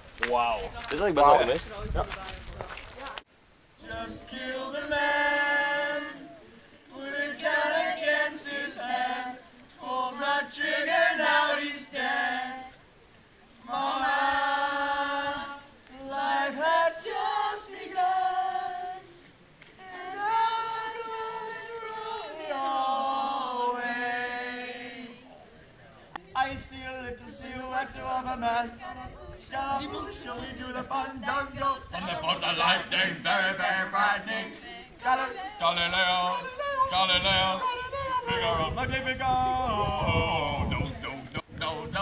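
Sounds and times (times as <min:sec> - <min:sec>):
people singing unaccompanied: 0:03.8 - 0:25.4, 0:26.2 - 0:42.0.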